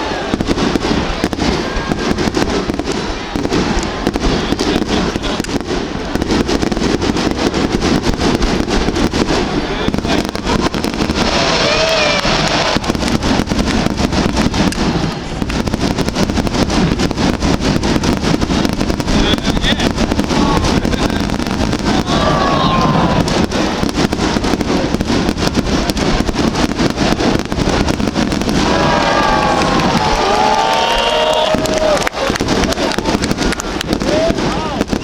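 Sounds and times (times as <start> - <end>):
people's voices: 0.0 - 7.7, 8.3 - 15.6, 17.8 - 35.0
fireworks bangs and crackles: 0.0 - 35.0.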